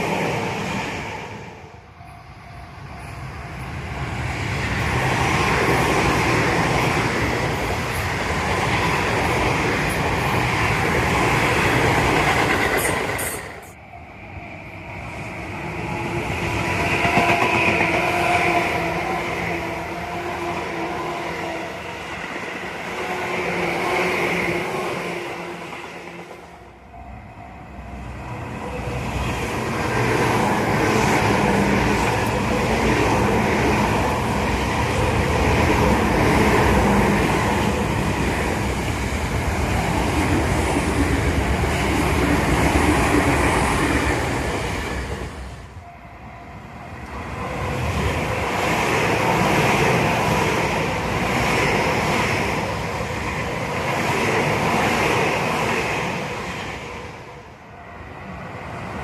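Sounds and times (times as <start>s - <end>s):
electric trains passing: 0.0s - 59.0s.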